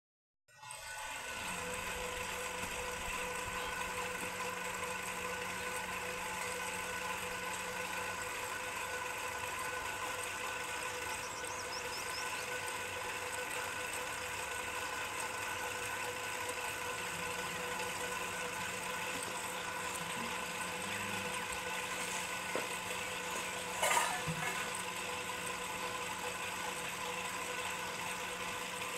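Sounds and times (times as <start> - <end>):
engine humming steadily: 0.9 - 28.9.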